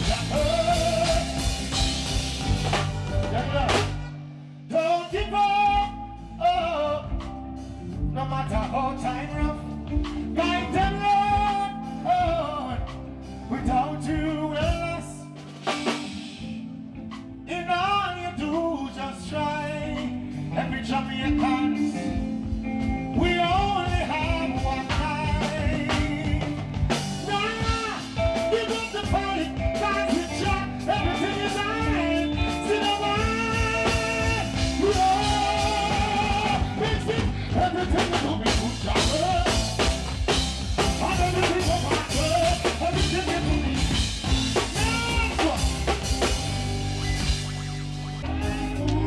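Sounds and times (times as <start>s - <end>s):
man singing into microphone: 0.0s - 2.0s, 3.1s - 4.1s, 4.7s - 15.5s, 17.4s - 46.0s
live reggae band playing: 0.0s - 49.0s.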